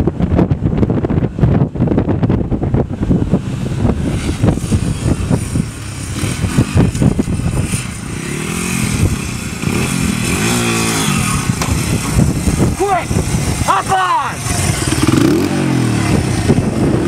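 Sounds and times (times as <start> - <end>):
small motorbike engine revving: 3.3 - 17.0.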